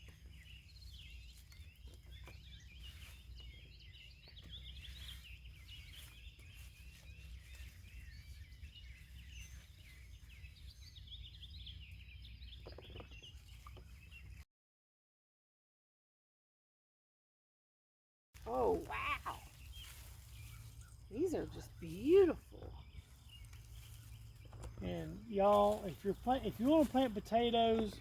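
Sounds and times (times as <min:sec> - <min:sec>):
songbirds chirping and singing: 0:00.0 - 0:14.4, 0:18.4 - 0:28.0.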